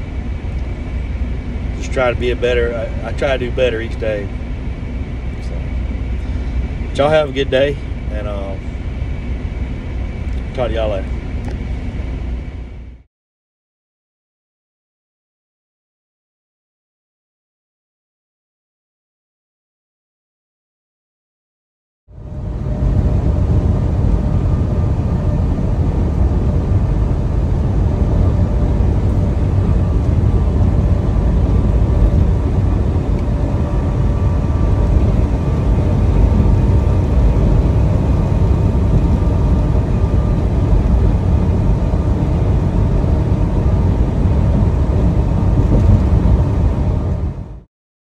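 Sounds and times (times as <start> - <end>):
vehicle rumble: 0.0 - 13.1, 22.1 - 47.7.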